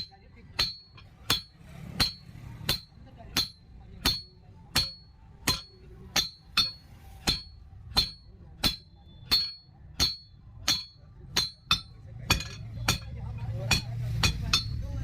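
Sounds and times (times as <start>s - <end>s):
hammer striking metal on anvil: 0.0s - 15.0s.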